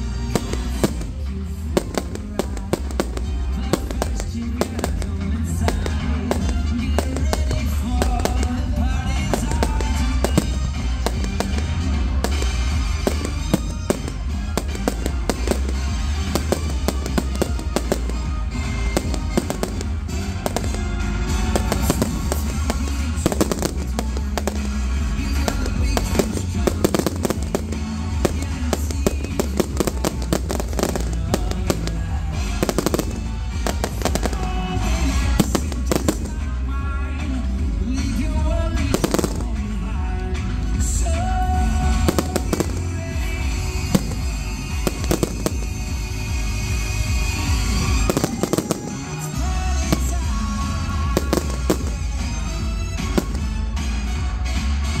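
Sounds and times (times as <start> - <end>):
fireworks bangs and crackles: 0.0 - 55.0
loud music with heavy bass: 0.0 - 55.0.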